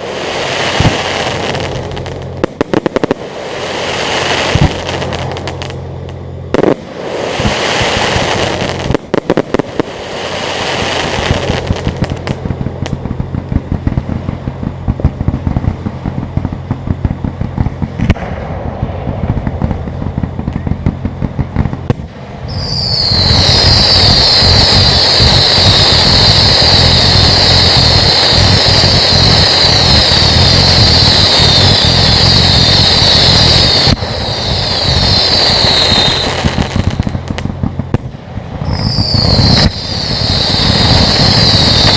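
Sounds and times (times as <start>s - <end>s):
whistling fireworks screech: 0.0s - 14.1s, 21.5s - 41.9s
fireworks crackling and popping: 0.0s - 41.9s
steady low hum: 0.0s - 41.9s.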